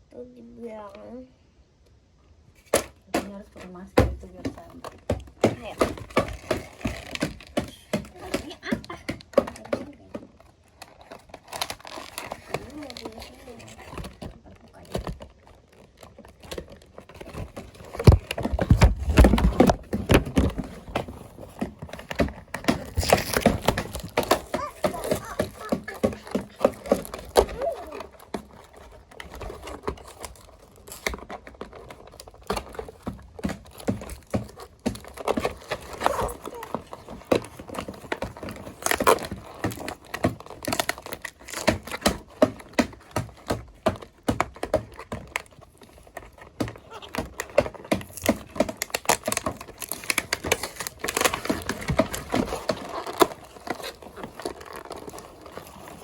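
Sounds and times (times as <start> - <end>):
packaging clicks knocks and rustles: 2.6 - 56.0.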